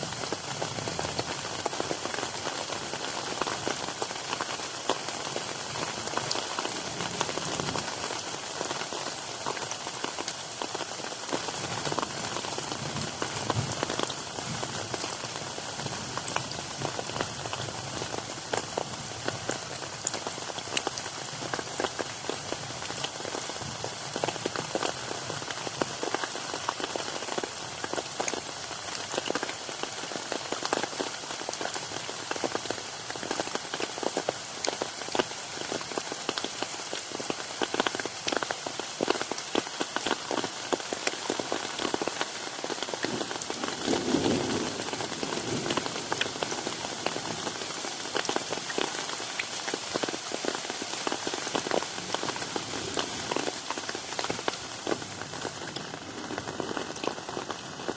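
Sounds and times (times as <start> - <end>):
rain hissing: 0.0 - 57.9.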